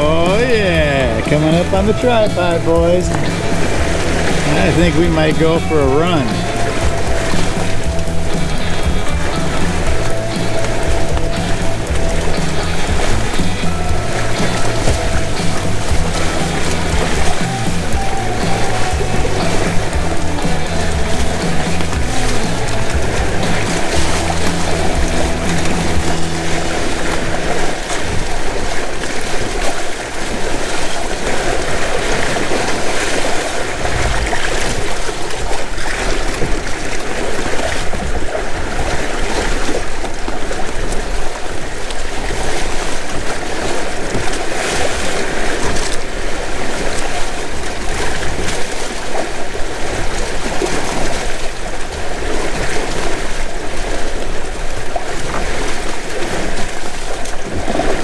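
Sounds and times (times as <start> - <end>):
wind noise on microphone: 0.0 - 48.9
water rushing along hulls: 0.0 - 58.0.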